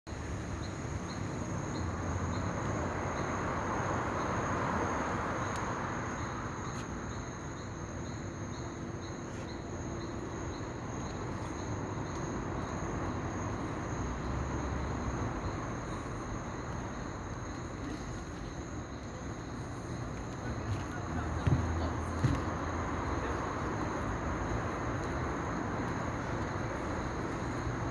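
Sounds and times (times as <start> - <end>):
background noise: 0.1 - 27.9
insect chirping: 0.1 - 27.9.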